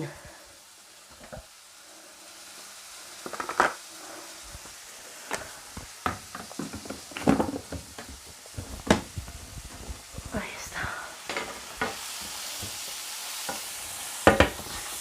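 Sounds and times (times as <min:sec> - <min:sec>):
onion sizzling in a pan: 0:00.0 - 0:15.0.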